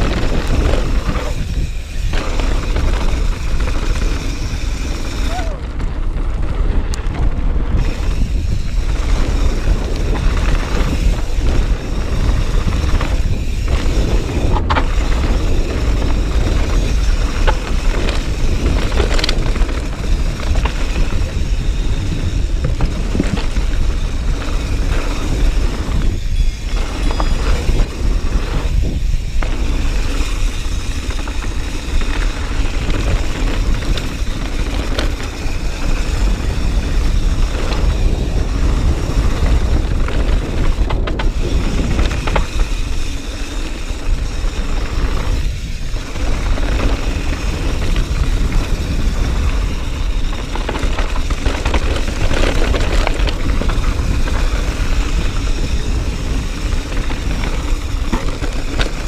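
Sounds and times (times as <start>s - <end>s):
bike clicks and knocks: 0.0s - 59.0s
wind rumble on microphone: 0.0s - 59.0s.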